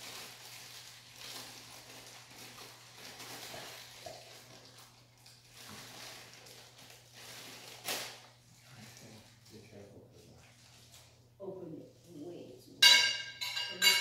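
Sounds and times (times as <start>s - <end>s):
low steady hum: 0.0s - 14.0s
rustling and handling noises: 0.0s - 14.0s.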